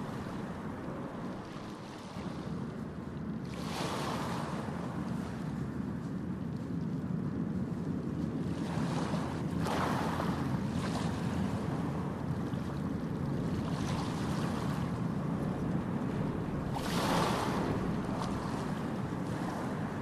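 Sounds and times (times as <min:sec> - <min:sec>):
sea water wash: 0:00.0 - 0:20.0
wind rumbling on microphone: 0:00.0 - 0:20.0.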